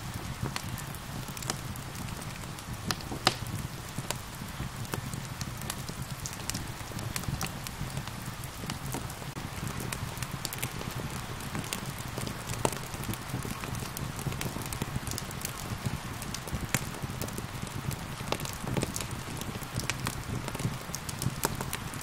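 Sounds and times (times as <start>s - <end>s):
rain pattering: 0.0s - 22.0s
wood fire crackling and popping: 0.0s - 22.0s.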